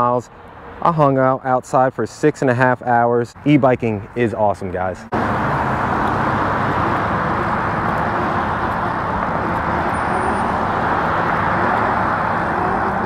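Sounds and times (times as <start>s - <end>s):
road noise rushing hiss: 0.0s - 13.0s.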